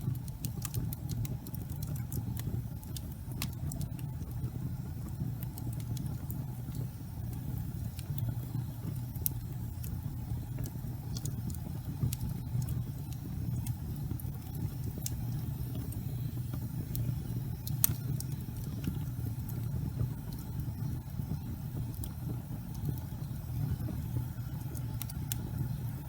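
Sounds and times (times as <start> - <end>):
fire crackling and popping: 0.0 - 26.0
fireplace fire burning: 0.0 - 26.0.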